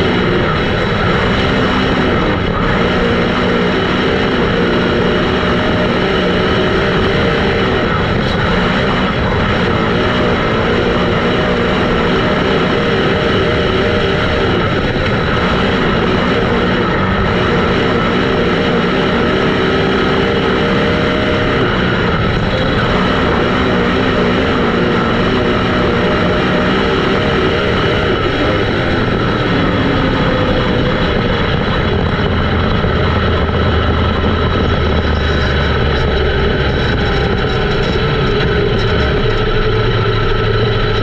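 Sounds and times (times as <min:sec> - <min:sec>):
race car engines running hard: 0:00.0 - 0:41.0.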